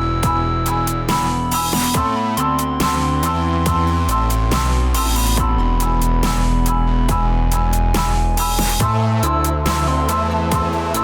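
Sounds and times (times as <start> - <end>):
electronic beat: 0.0 - 11.0
pulsing bass line: 0.0 - 11.0
sustained synth tones: 0.0 - 11.0.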